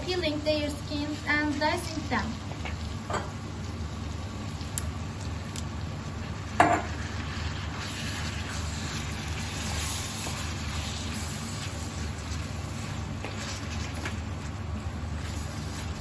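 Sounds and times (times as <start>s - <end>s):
meat and vegetables sizzling: 0.2s - 16.0s.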